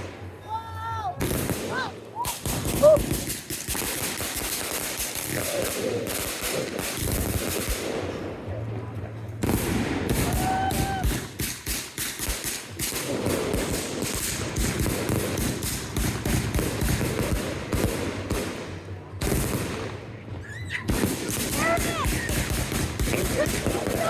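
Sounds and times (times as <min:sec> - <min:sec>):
firecrackers crackling: 0:00.0 - 0:08.8, 0:09.4 - 0:24.0.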